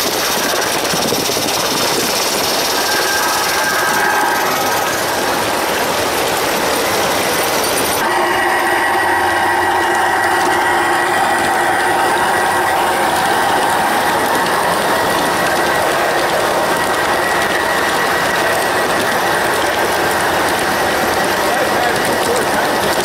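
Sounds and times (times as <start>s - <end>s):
high whine: 0.0s - 23.0s
model train wheels rattling: 0.0s - 23.0s.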